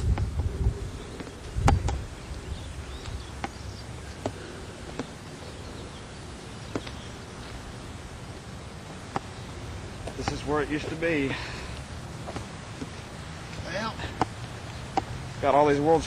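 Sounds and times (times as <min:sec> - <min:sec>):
faint steady hiss: 0:00.0 - 0:16.0
low rumble of wind: 0:00.0 - 0:16.0.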